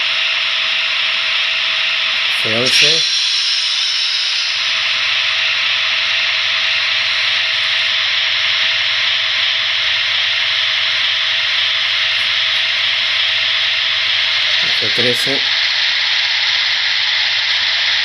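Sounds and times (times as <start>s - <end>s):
model locomotive steady hiss: 0.0s - 18.0s.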